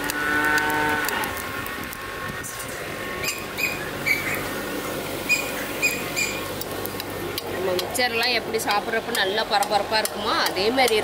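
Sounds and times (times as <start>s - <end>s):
oil frying: 0.0s - 11.0s.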